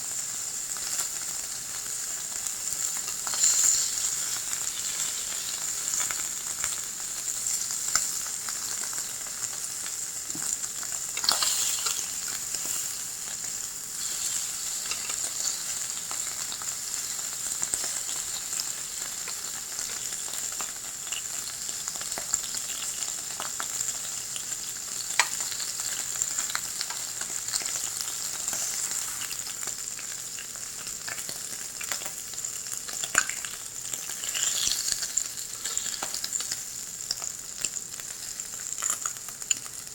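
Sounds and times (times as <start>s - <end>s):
beef sizzling on hot plate: 0.0s - 39.9s.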